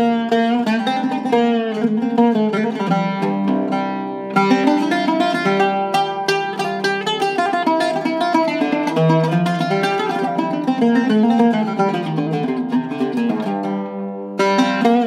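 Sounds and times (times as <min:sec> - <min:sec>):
oud plucked notes: 0:00.0 - 0:15.0.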